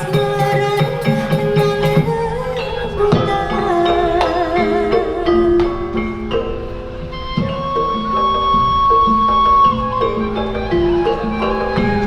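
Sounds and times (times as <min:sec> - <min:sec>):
bamboo flute long note: 0:00.0 - 0:12.0
struck metallophone notes: 0:00.0 - 0:12.0.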